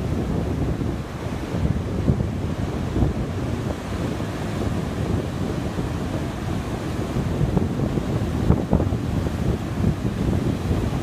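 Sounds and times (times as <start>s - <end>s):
heavy surf breaking: 0.0s - 11.0s
wind buffeting microphone: 0.0s - 11.0s.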